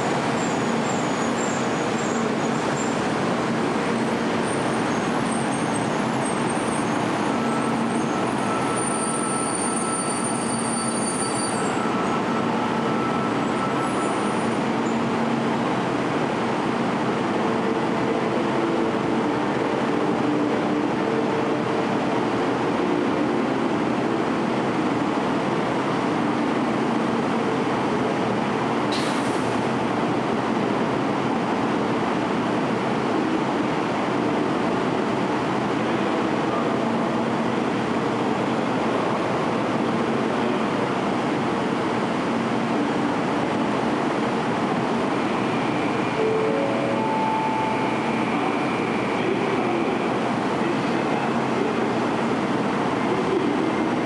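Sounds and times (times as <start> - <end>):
train equipment hum and whir: 0.0 - 54.0.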